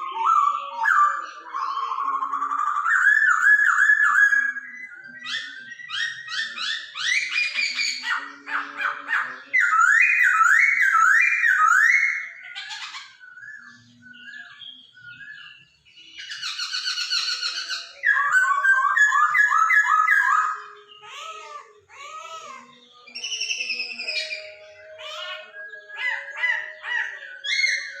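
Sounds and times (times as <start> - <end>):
songbird whistling: 0.0 - 21.2, 21.9 - 28.0.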